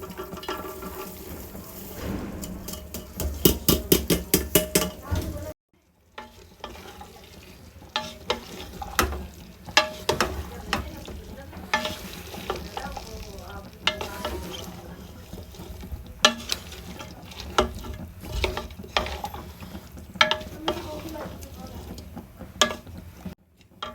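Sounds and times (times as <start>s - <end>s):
utensil scraping a pan: 0.0s - 5.6s, 6.2s - 23.9s
food sizzling in a pan: 0.0s - 23.9s
utensil clinking on a pan: 0.0s - 23.9s.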